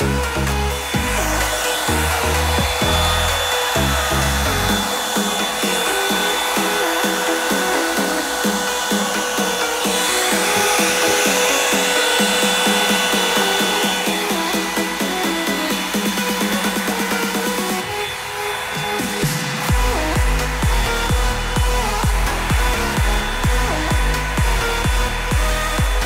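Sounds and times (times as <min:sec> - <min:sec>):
electronic dance music: 0:00.0 - 0:26.0
hair dryer whine: 0:00.0 - 0:26.0.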